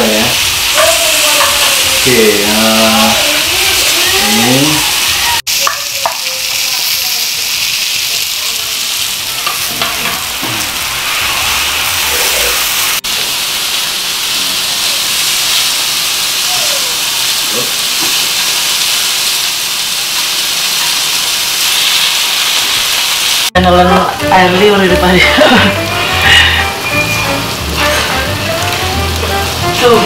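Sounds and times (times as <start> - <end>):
food sizzling in pans: 0.0 - 30.0.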